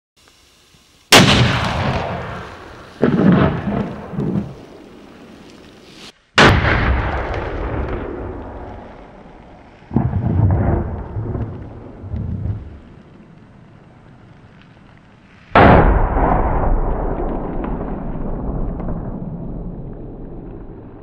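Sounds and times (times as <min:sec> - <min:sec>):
blasts with rumbling: 0:01.1 - 0:21.0.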